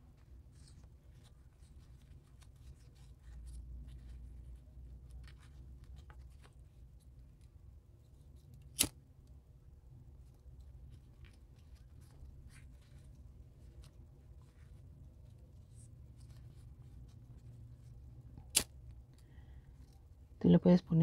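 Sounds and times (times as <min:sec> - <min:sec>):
ribbon rustling and clicking: 0:00.0 - 0:20.3
low steady hum: 0:00.0 - 0:21.0.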